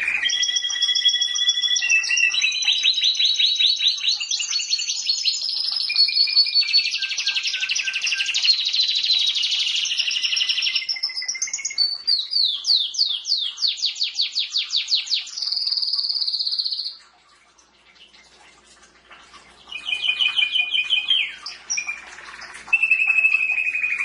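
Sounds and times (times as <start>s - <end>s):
canary singing trills: 0.0s - 17.0s, 19.7s - 24.0s.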